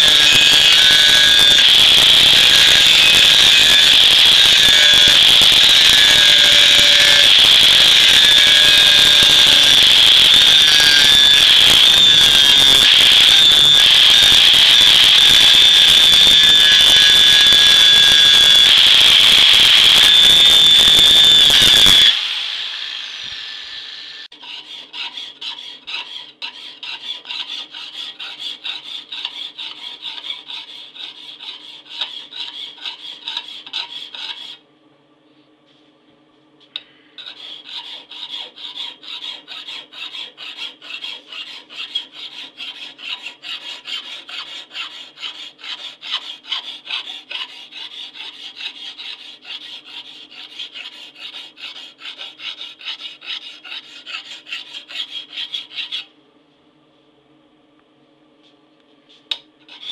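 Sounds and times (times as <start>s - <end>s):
hand file rasping on blade: 0.0s - 18.6s, 24.3s - 34.6s, 37.2s - 56.1s, 59.7s - 59.9s
angle grinder whining: 0.0s - 34.6s, 36.8s - 56.1s.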